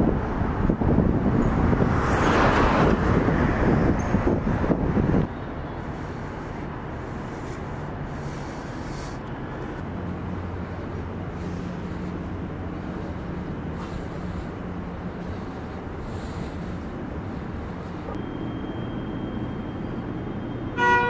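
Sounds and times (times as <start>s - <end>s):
city background noise: 0.0s - 21.0s.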